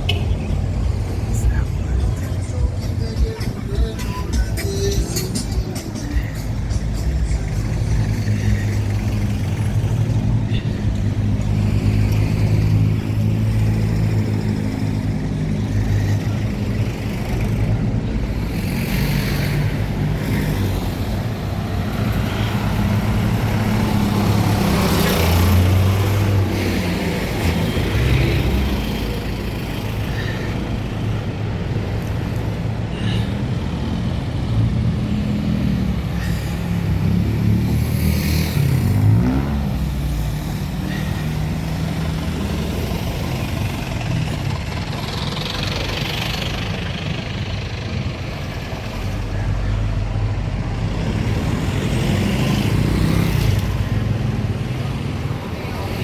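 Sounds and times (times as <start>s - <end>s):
traffic engines humming: 0.0s - 56.0s.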